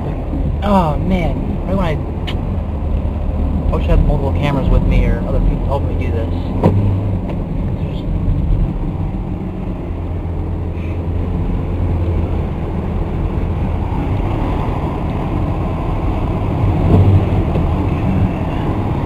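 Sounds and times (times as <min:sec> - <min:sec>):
car road noise from inside: 0:00.0 - 0:19.0.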